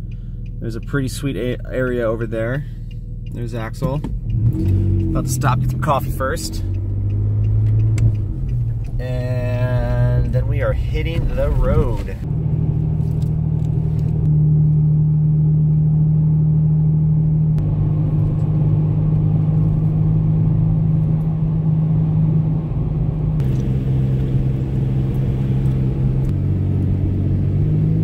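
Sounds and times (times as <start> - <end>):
road noise: 0.0 - 28.0
vehicle engine drone: 0.0 - 28.0.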